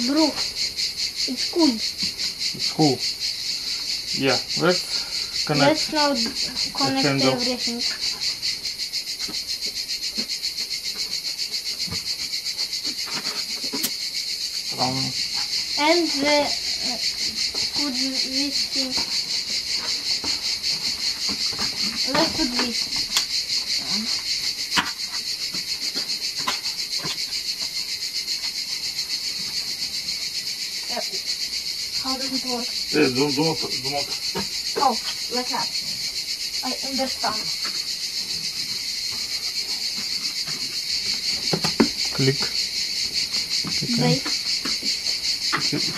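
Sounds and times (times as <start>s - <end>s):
insect chorus chirping: 0.0s - 45.9s.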